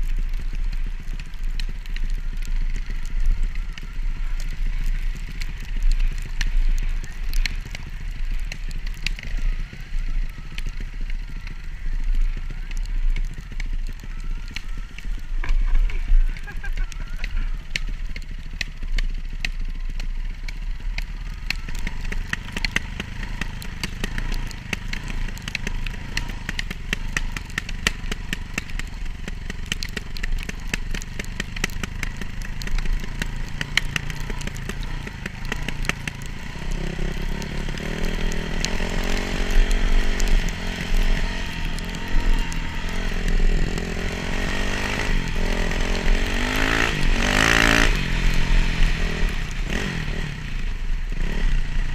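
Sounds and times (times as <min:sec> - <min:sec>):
dirt bike engine running: 0:00.0 - 0:51.9
rapid ticks and clatters: 0:00.0 - 0:51.9.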